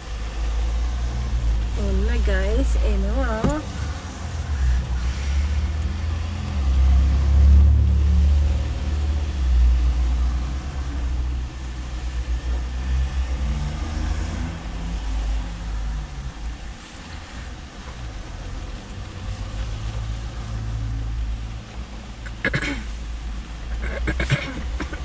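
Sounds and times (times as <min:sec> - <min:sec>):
car rumble inside cabin: 0:00.0 - 0:25.0.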